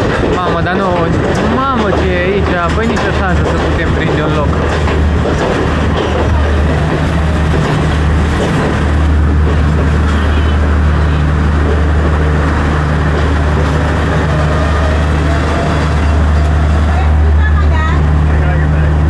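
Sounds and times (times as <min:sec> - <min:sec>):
diesel train engine droning: 0:00.0 - 0:19.0.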